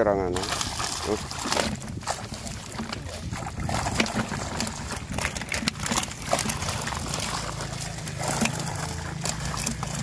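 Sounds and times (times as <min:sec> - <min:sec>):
low steady hum: 0:00.0 - 0:10.0
fish splashing in net: 0:00.2 - 0:10.0.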